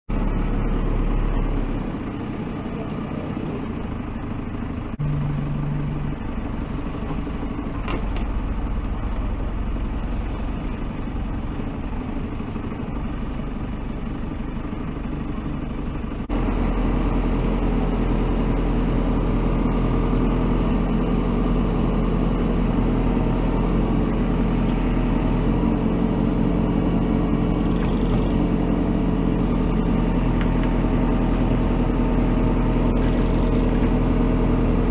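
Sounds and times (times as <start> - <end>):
diesel machinery engines running: 0.1 - 34.9.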